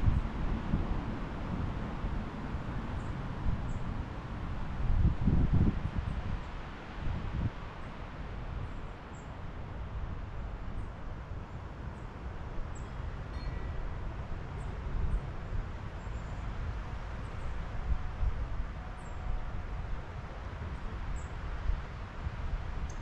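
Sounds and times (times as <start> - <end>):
wind through trees: 0.0 - 23.0.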